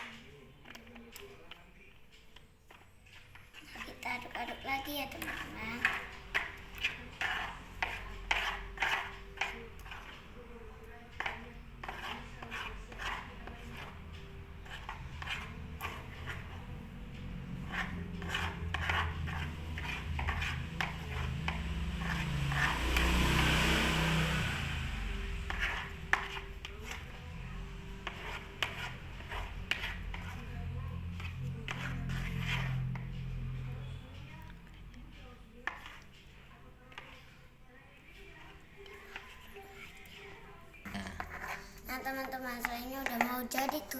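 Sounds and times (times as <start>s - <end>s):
utensil scraping and clicking in bowl: 0.0s - 24.2s, 25.2s - 37.4s, 38.2s - 40.4s, 41.1s - 43.9s.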